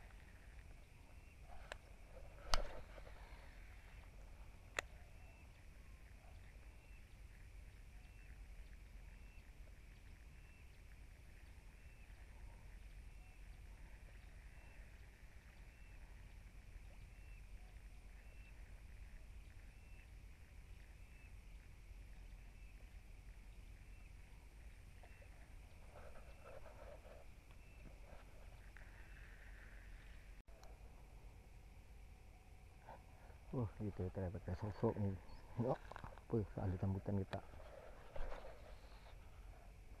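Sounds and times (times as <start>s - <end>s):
rustle: 0.0s - 40.0s.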